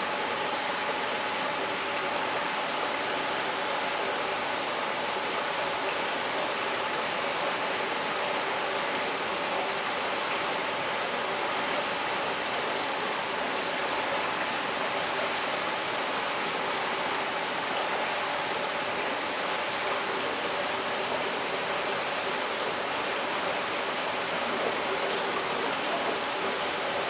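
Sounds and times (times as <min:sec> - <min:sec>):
water rushing through trays: 0:00.0 - 0:27.0.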